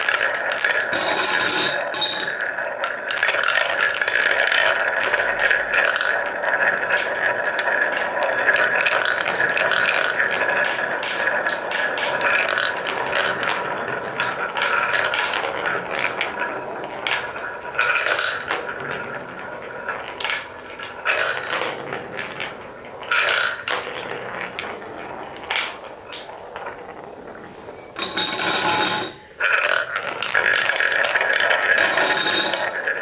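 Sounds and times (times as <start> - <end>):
balls rolling in wooden bowl: 0.0 - 33.0
wooden balls clacking: 0.0 - 33.0.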